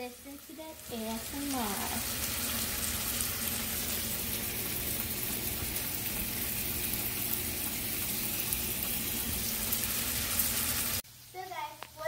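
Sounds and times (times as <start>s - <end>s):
meatballs sizzling in oil: 0.0s - 12.0s.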